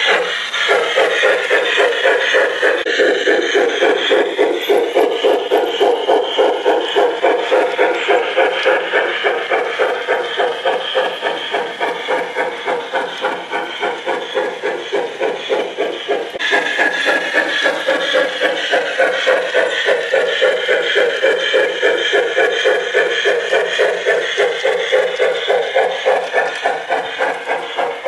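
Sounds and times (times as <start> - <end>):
model steam locomotive chuffing: 0.0 - 28.0.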